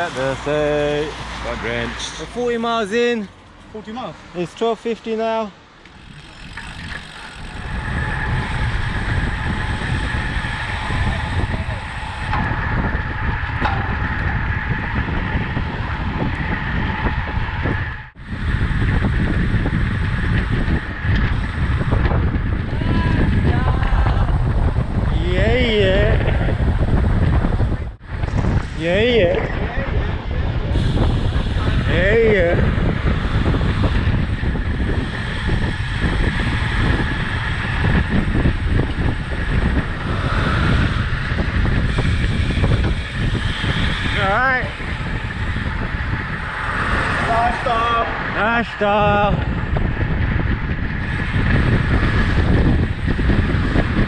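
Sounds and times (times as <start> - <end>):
wind buffeting microphone: 0.0 - 5.1, 5.8 - 54.0
road rush beneath bicycle: 0.0 - 54.0.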